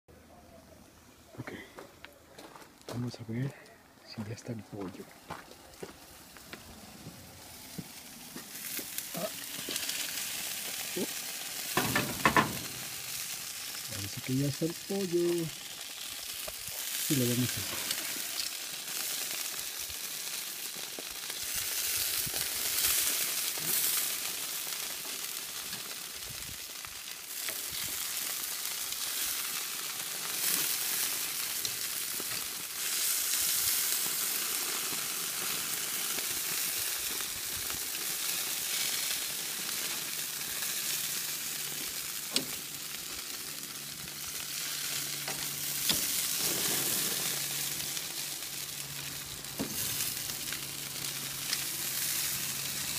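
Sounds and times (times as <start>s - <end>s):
chicken sizzling on grill: 3.4s - 52.9s.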